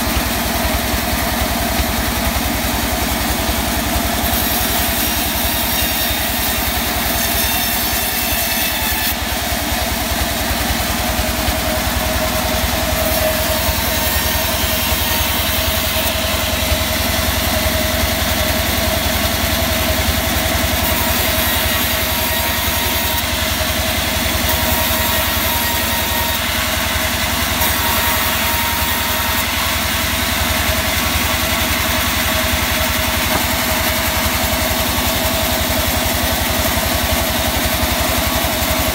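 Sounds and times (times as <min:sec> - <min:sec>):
band saw cutting log: 0:00.0 - 0:38.9.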